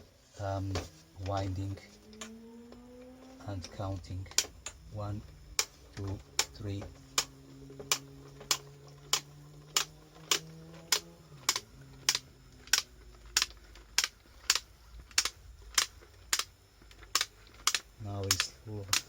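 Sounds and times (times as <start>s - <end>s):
film loader crank clicking: 3.6s - 19.0s.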